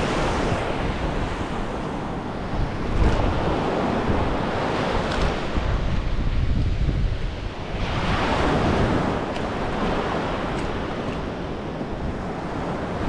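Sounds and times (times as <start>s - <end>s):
surf washing up beach: 0.0s - 13.0s
wind buffeting microphone: 0.0s - 13.0s.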